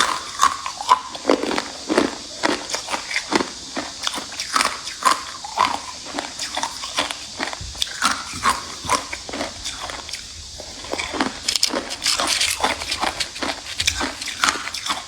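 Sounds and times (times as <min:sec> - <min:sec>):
person chewing ice: 0:00.0 - 0:15.0.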